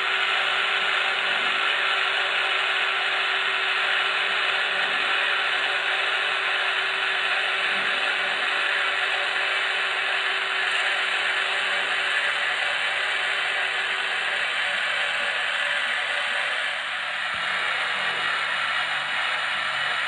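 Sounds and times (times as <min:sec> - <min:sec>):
model train motor whirring: 0:00.0 - 0:20.0.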